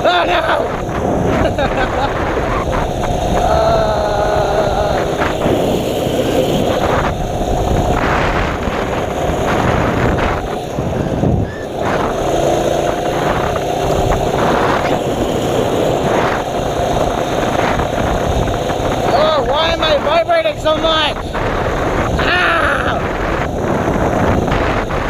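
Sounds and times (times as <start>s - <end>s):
mini bike engine running: 0.0s - 25.0s.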